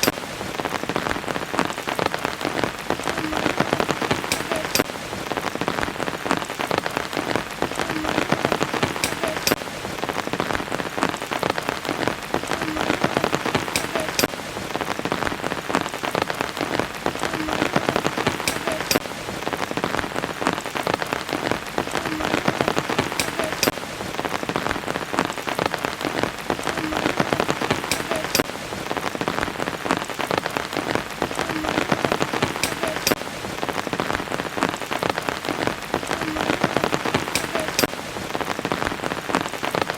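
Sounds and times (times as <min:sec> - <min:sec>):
rain hissing: 0:00.0 - 0:39.9
raindrops ticking: 0:00.0 - 0:39.9.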